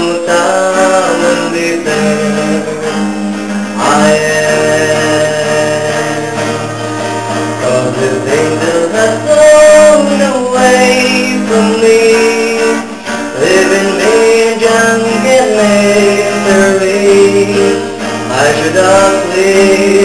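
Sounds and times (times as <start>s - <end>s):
pop ballad with guitar: 0.0s - 20.0s.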